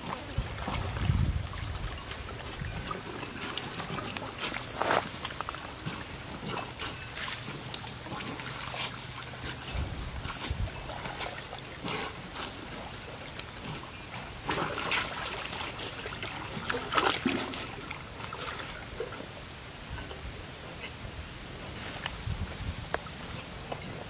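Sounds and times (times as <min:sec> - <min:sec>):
water splashing and trickling: 0:00.0 - 0:24.0.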